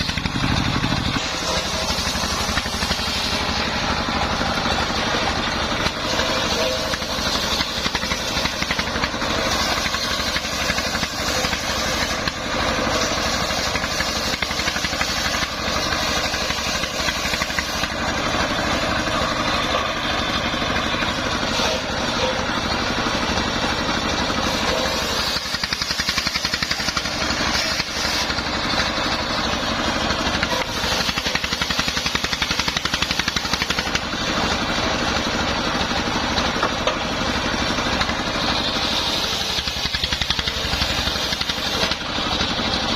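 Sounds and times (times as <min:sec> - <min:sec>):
circular saw whine cutting wood: 0:00.0 - 0:42.9
diesel engine throbbing: 0:00.0 - 0:42.9.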